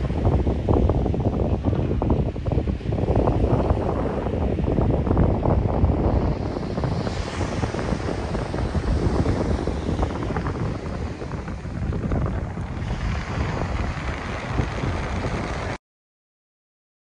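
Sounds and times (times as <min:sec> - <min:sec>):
wind buffeting microphone: 0:00.0 - 0:15.8.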